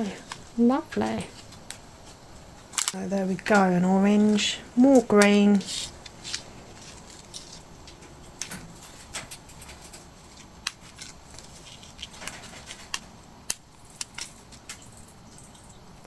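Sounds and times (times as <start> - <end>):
plastic bags crinkling: 1.3 - 15.0.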